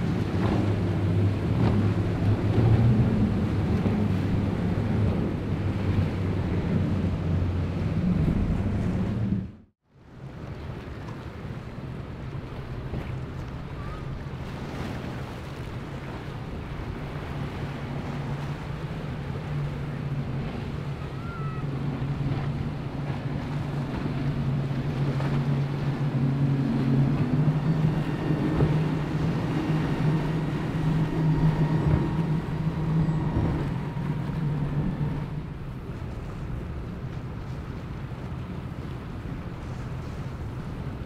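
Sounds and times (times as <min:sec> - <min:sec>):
motorboat engines droning: 0:00.0 - 0:41.0
wake water rushing: 0:00.0 - 0:41.0.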